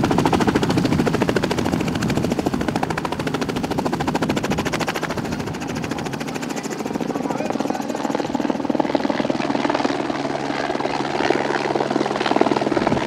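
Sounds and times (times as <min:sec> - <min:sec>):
helicopter engine running: 0:00.0 - 0:13.0
helicopter rotor chop: 0:00.0 - 0:13.0.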